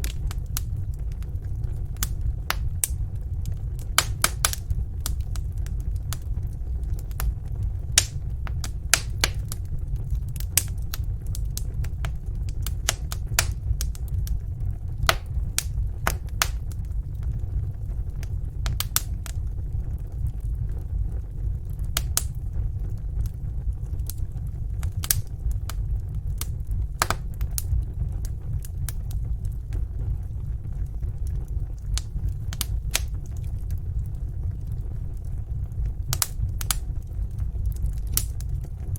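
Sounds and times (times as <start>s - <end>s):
fire crackling and popping: 0.0s - 38.9s
low rumble: 0.0s - 38.9s.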